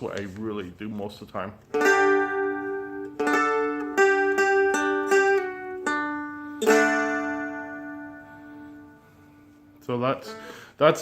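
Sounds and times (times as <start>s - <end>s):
strum stick chord strumming: 1.6s - 10.6s.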